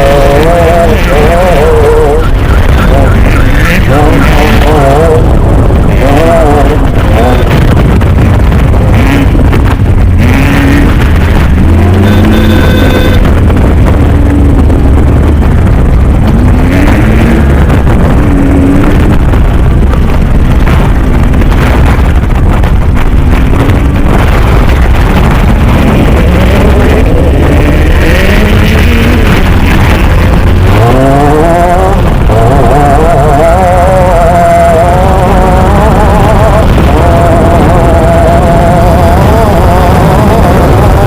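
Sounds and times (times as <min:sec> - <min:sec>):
off-road vehicle engine revving: 0:00.0 - 0:41.0
wind and rough-terrain rumble: 0:00.0 - 0:41.0.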